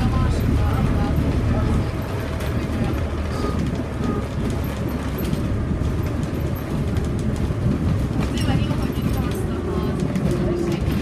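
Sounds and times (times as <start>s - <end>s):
trolleybus rumble: 0.0s - 11.0s.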